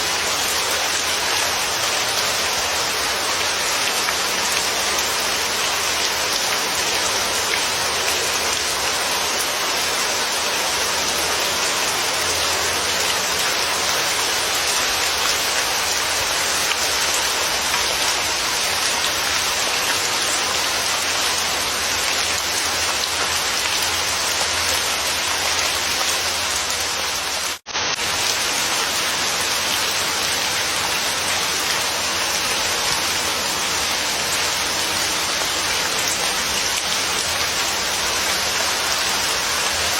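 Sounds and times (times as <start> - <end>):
dense rainfall hissing: 0.0 - 39.9.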